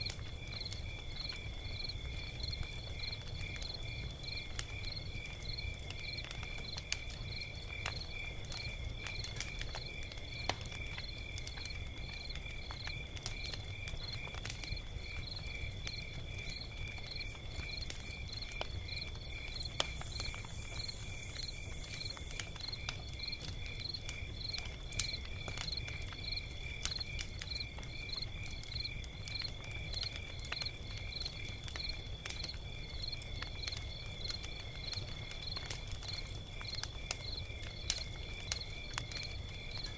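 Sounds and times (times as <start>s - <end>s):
log fire crackling and popping: 0.0s - 39.9s
crickets chirping: 0.3s - 39.9s.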